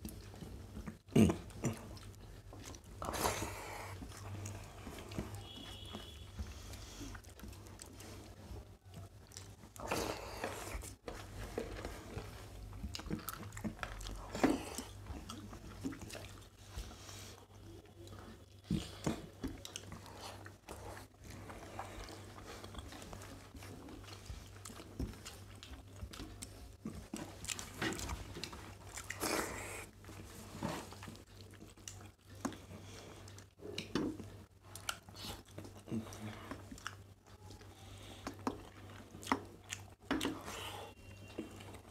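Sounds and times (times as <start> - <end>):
people chewing: 0.0 - 41.9.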